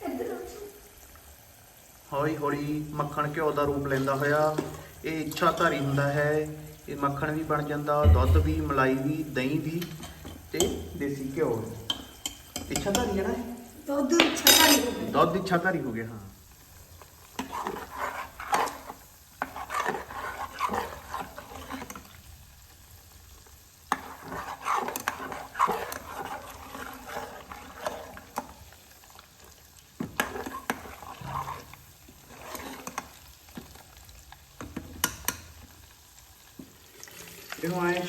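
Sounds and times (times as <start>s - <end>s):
butter bubbling and sizzling: 0.0s - 38.0s
stirring in a pot: 0.9s - 13.8s, 14.4s - 38.0s.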